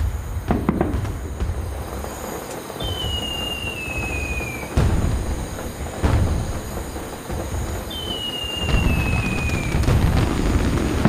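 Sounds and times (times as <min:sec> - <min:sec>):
falling firework whistle: 0:00.0 - 0:11.0
firework bangs: 0:00.0 - 0:11.0
loud firework boom: 0:00.0 - 0:11.0.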